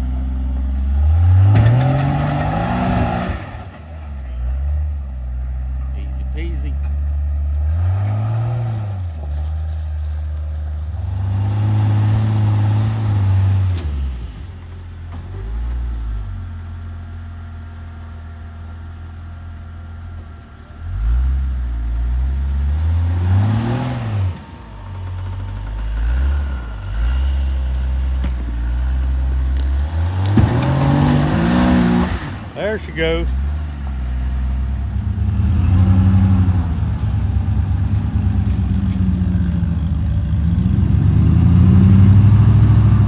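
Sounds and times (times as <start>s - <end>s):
truck engine revving: 0.0s - 14.4s, 20.8s - 43.0s.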